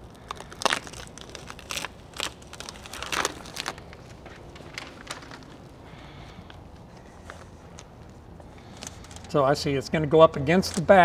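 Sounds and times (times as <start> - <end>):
tape crinkling and rustling: 0.0 - 9.6, 10.2 - 11.0.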